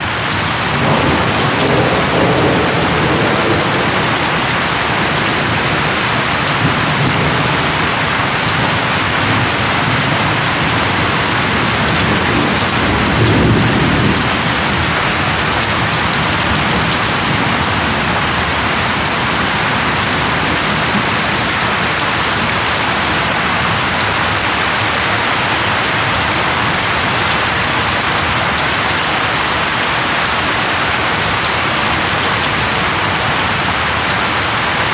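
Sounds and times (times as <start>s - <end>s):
thunder rumbling: 0.0s - 28.6s
dense rain falling: 0.0s - 34.9s.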